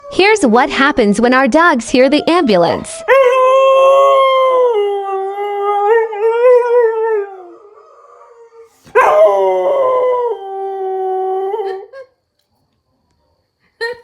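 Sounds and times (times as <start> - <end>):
dogs howling: 0.0 - 11.9.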